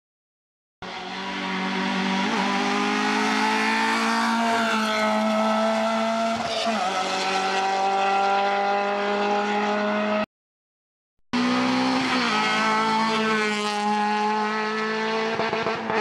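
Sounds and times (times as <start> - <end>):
car engine at high revs: 0.8 - 10.3, 11.4 - 16.0.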